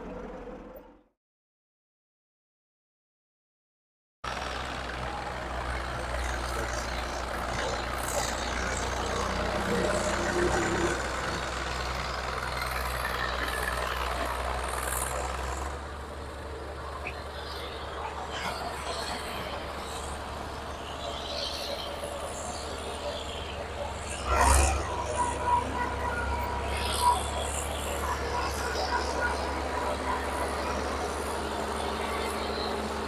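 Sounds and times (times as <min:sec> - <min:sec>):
large machine engine humming: 0:00.0 - 0:01.1, 0:04.3 - 0:33.0.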